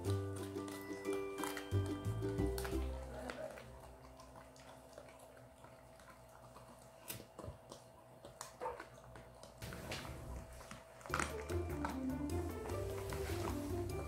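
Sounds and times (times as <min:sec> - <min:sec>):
dogs chewing: 0:00.0 - 0:14.0.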